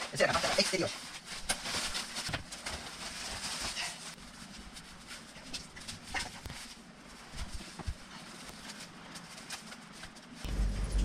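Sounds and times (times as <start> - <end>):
rain jacket rustling: 0.0 - 10.4.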